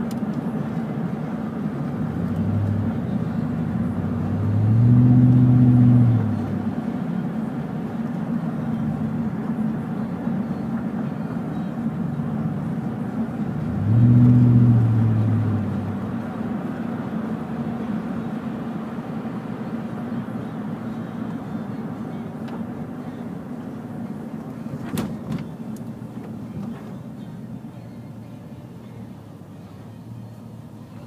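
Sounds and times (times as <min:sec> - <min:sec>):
car cabin road and engine noise: 0:00.0 - 0:31.0.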